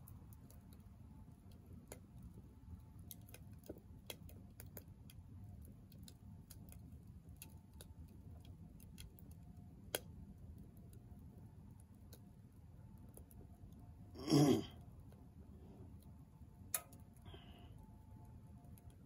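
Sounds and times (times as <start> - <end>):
firewood crackling in a stove: 0.0 - 19.0
low steady rumble: 0.0 - 19.0.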